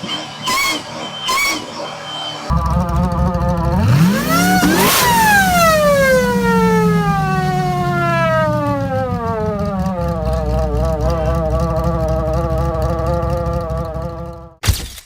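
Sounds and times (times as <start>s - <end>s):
car engine droning: 0.0s - 14.6s
supercharger whine: 0.0s - 14.6s.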